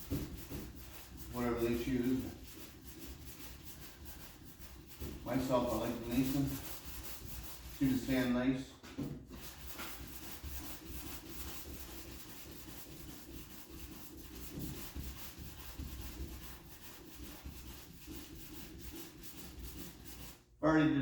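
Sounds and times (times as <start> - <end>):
sandpaper rubbing on panel: 0.0 - 8.4, 9.3 - 20.4.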